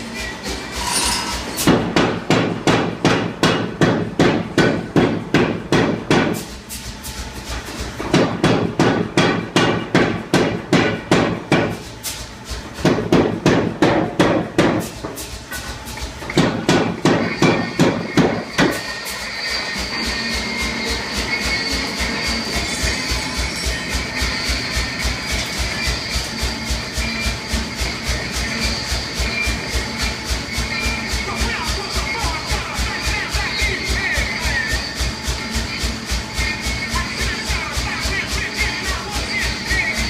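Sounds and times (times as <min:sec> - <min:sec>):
power hammer pounding hot steel: 0:00.0 - 0:06.6, 0:07.6 - 0:40.0.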